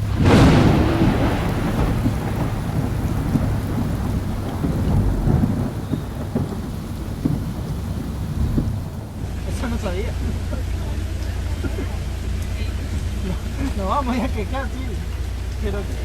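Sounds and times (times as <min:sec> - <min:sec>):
heavy rain: 0:00.0 - 0:16.0
thunderclap rumbling: 0:00.0 - 0:16.0.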